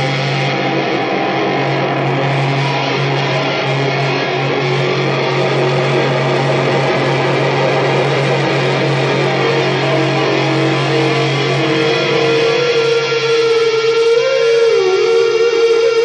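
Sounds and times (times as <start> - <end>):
electric guitar droning: 0.0 - 16.0.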